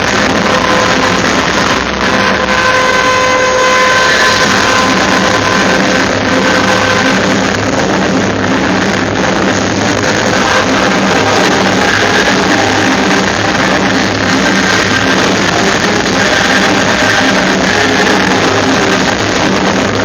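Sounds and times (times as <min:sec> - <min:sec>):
loud rock music: 0:00.0 - 0:20.0.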